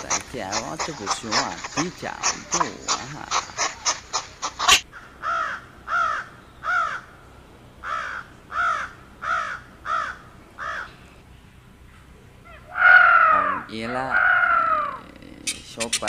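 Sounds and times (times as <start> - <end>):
crows cawing: 0.0 - 7.2, 7.8 - 11.0, 12.5 - 15.2.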